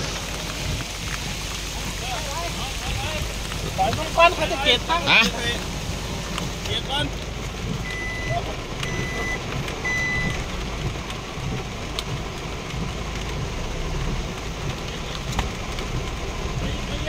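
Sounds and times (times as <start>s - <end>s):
heavy rain on vehicle roof: 0.0s - 17.0s
vehicle engine running: 0.0s - 17.0s.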